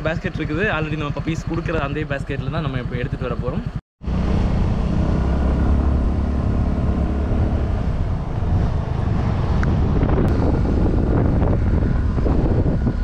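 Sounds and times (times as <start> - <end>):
motorcycle engine hum: 0.0 - 13.0
road and wind rush: 0.0 - 13.0.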